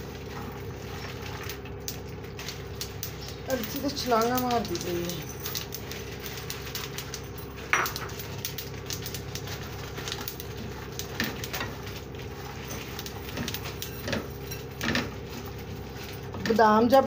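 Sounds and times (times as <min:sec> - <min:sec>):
nuts rattling in metal pan: 0:00.0 - 0:17.0.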